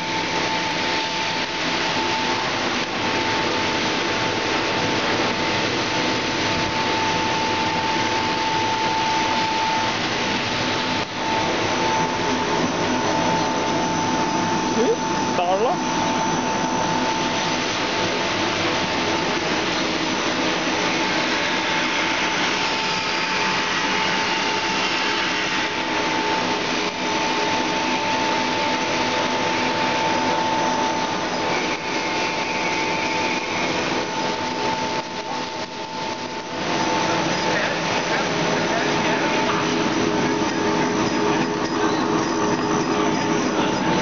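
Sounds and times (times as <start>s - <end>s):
machine running with whine: 0.0s - 44.0s.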